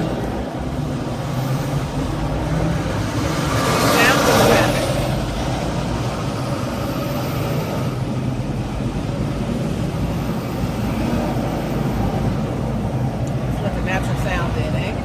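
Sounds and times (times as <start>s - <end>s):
freeway traffic hum: 0.0s - 15.0s
vehicles passing close by: 0.0s - 15.0s.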